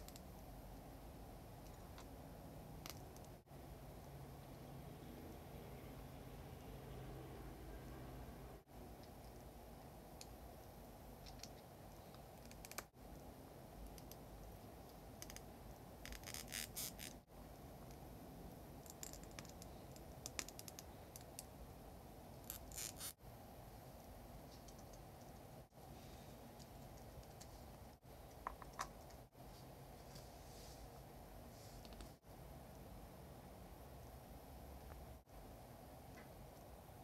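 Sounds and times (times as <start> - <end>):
faint background hiss: 0.0 - 37.0.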